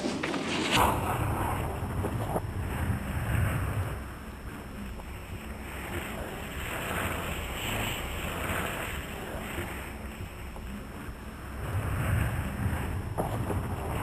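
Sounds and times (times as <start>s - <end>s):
wind buffeting microphone: 0.7s - 14.0s.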